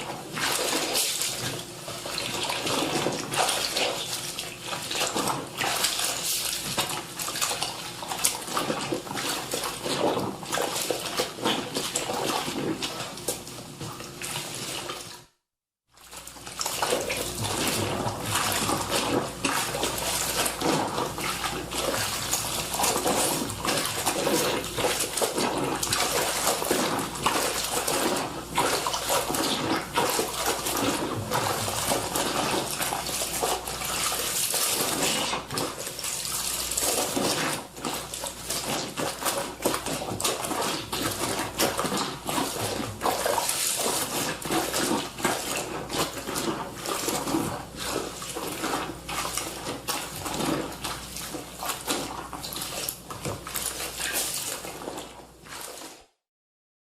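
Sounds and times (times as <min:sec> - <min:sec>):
clothes washed by hand in water: 0:00.0 - 0:56.3.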